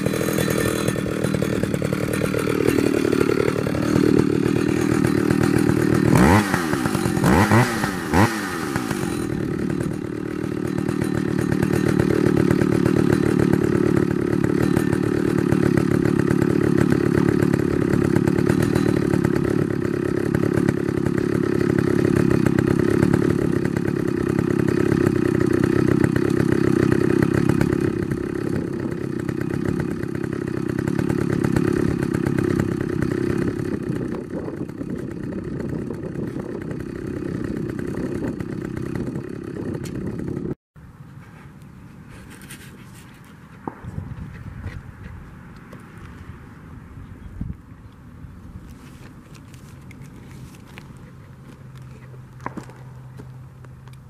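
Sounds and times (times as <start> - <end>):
chainsaw engine running: 0.0 - 54.0.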